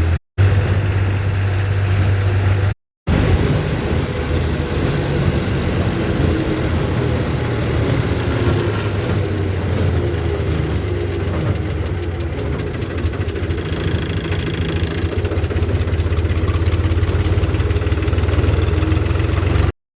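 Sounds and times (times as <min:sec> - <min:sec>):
tractor engine running: 0:00.0 - 0:19.7.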